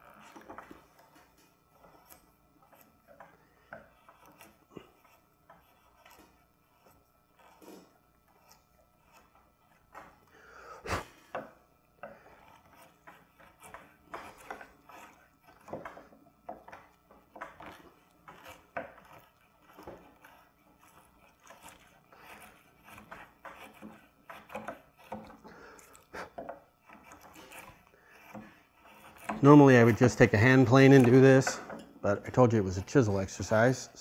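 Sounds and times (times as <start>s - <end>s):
chisel paring wood: 0.0s - 10.3s, 10.9s - 34.0s.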